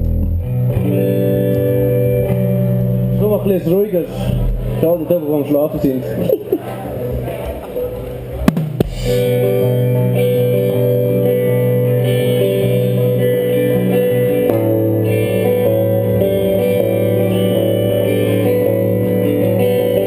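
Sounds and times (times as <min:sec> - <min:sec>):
guitars strumming chords: 0:00.0 - 0:20.0.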